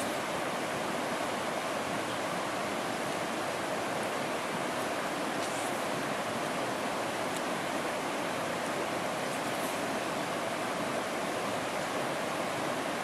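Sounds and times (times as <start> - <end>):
stream rushing over stones: 0.0 - 13.0.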